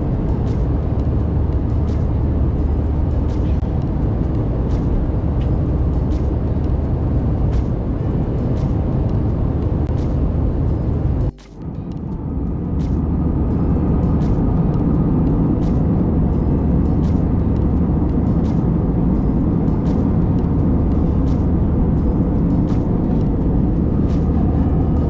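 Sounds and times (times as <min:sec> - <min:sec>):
airplane cabin engine hum: 0:00.0 - 0:25.0.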